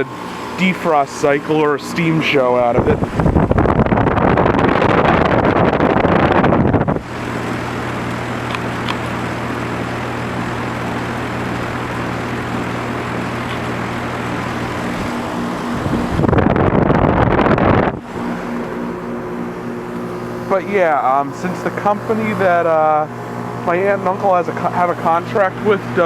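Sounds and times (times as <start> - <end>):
heat pump humming: 0.0 - 26.0.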